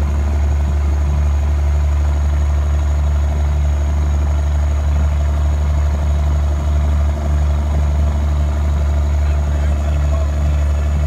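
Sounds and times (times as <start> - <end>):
truck engine low drone: 0.0 - 11.0.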